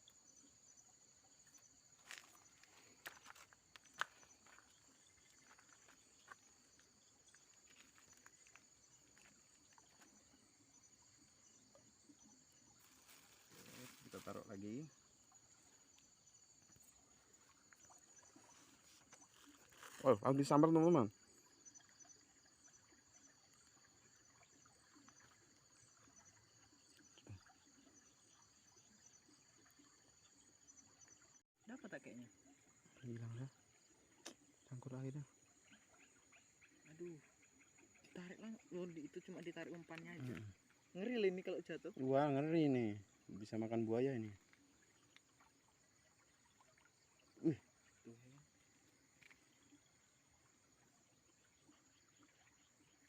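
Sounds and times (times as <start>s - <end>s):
crickets chirring: 0.0s - 53.0s.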